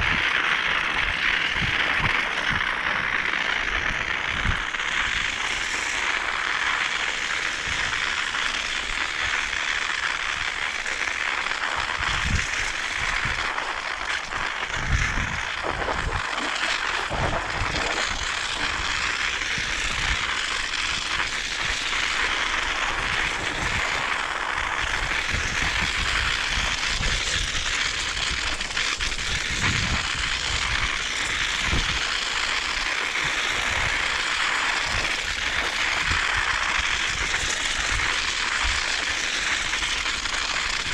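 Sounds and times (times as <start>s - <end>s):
bicycle tyres on snow and ice: 0.0s - 40.9s.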